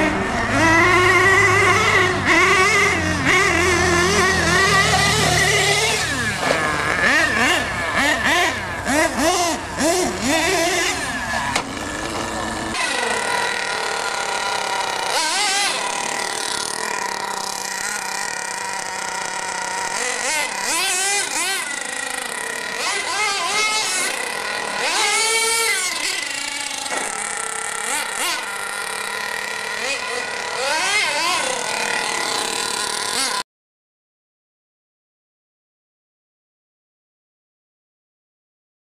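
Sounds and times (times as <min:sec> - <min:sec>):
small engines revving: 0:00.0 - 0:33.5.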